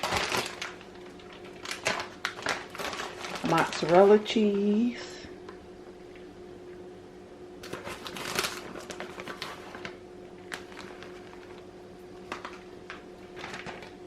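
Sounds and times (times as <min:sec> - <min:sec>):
shredded cheese rustling into bowl: 0:00.0 - 0:05.0, 0:07.6 - 0:14.0
steady low hum: 0:00.0 - 0:14.0.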